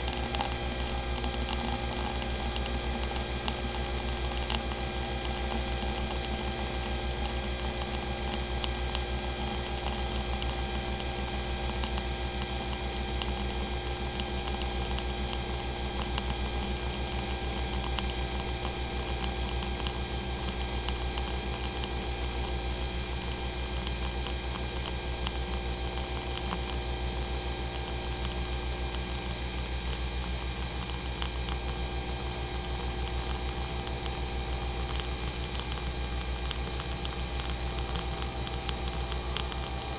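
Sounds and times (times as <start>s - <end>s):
coffee maker humming: 0.0s - 39.9s
faint ticks and crackles: 0.0s - 39.9s.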